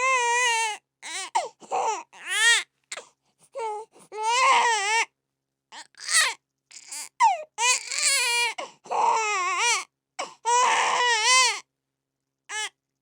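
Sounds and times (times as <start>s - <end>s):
infant crying: 0.0s - 3.0s, 3.6s - 5.1s, 5.8s - 11.6s, 12.5s - 12.7s.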